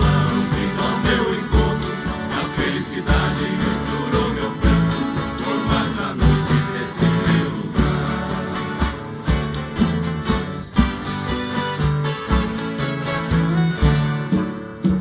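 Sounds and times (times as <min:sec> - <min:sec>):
acoustic guitars strumming: 0:00.0 - 0:15.0.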